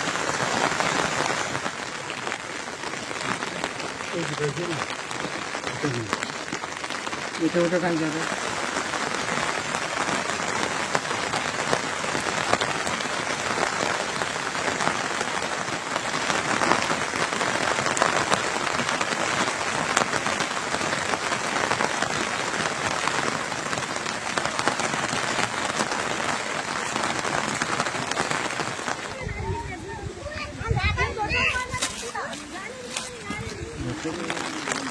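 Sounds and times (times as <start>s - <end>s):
raindrops ticking close by: 0.0s - 34.9s
steady rain falling: 0.0s - 34.9s.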